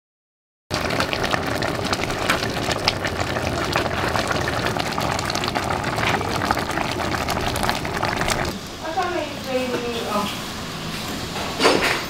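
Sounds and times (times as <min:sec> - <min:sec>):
stew boiling with bubbling pops: 0:00.7 - 0:10.4.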